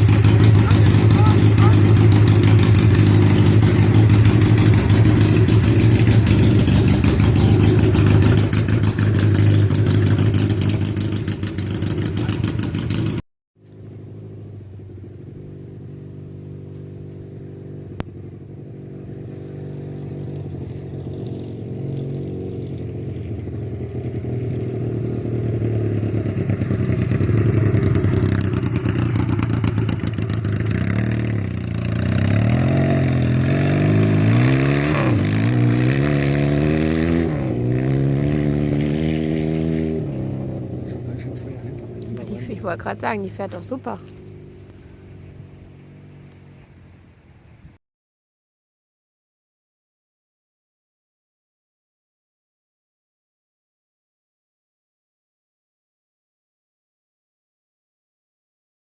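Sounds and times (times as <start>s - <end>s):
motorcycle engine running: 0.0s - 47.2s.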